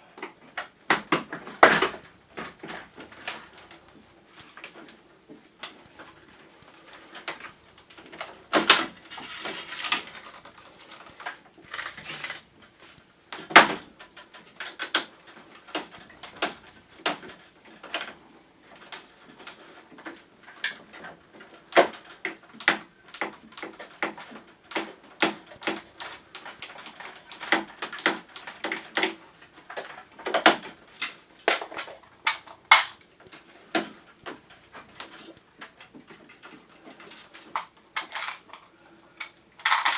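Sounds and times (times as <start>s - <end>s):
plastic parts clicking and knocking: 0.2s - 5.0s, 5.6s - 39.9s.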